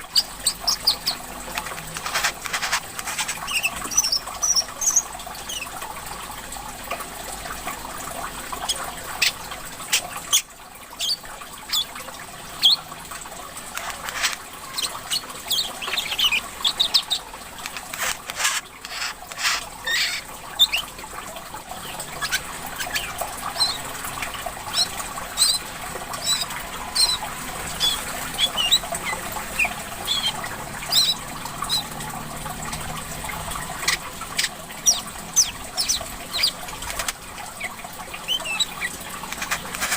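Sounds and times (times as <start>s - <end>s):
songbird chirps and trills: 0.0s - 5.8s, 8.5s - 21.0s, 21.7s - 39.9s
water trickling: 0.0s - 39.9s.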